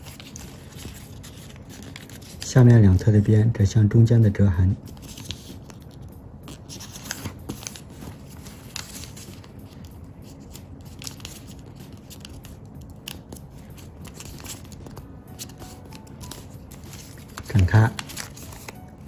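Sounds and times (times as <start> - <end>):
paper rustling and crackling: 0.0 - 3.3, 4.8 - 19.0.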